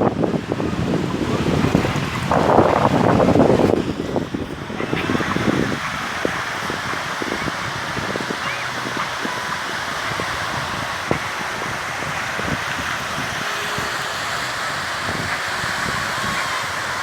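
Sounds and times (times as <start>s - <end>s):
road traffic: 0.0s - 17.0s
wind: 0.0s - 17.0s.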